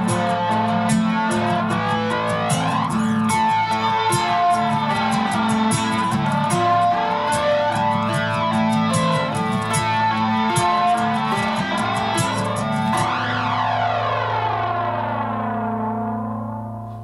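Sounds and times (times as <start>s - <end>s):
nylon-string guitar picked notes: 0.0s - 17.0s.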